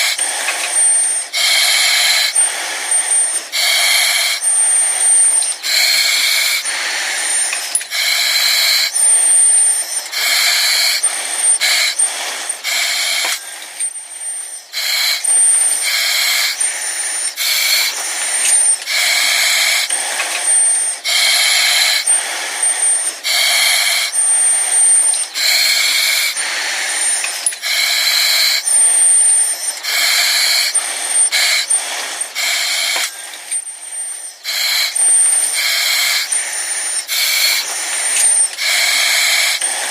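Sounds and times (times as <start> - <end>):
hissing breaths through mask: 0.0 - 39.9.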